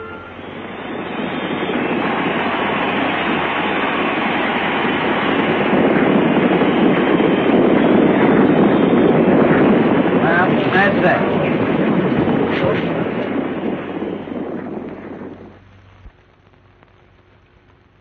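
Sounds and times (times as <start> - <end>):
vehicle rushing and rumbling: 0.0 - 16.0.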